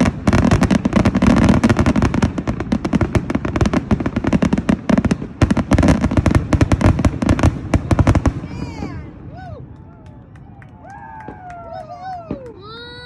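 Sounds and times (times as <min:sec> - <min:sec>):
fireworks bursts and crackling: 0:00.0 - 0:13.0.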